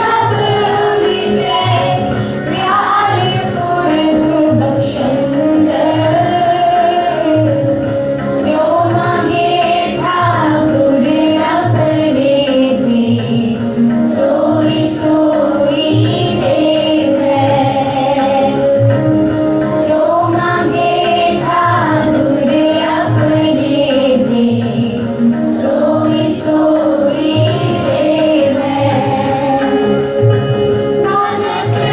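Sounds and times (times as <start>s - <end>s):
group singing a devotional hymn: 0.0s - 31.9s
steady rhythmic accompaniment: 0.0s - 31.9s.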